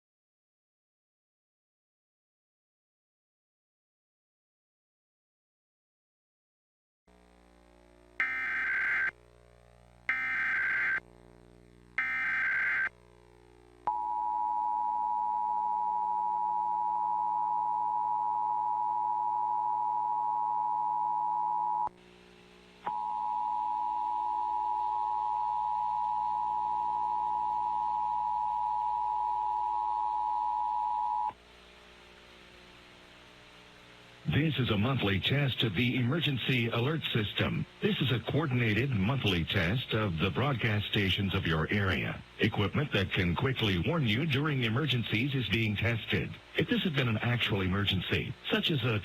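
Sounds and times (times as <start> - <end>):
faint hum: 7.1 - 49.0.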